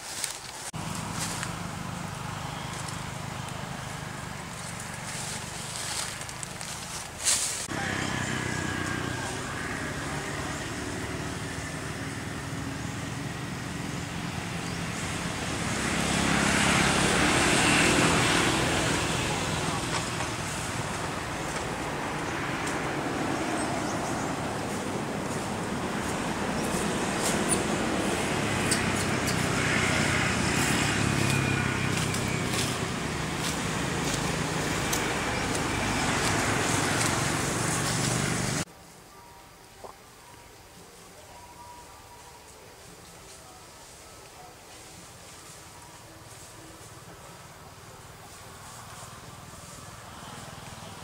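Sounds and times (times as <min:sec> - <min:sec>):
outdoor background noise: 0:00.0 - 0:51.0.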